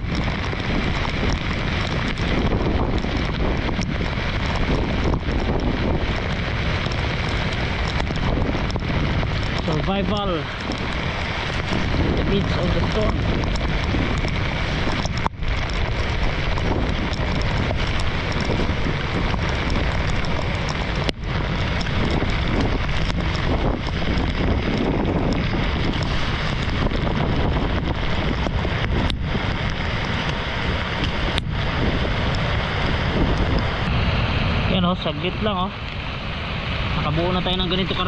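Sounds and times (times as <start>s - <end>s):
heavy rain: 0.0s - 38.0s
storm wind on microphone: 0.0s - 38.0s.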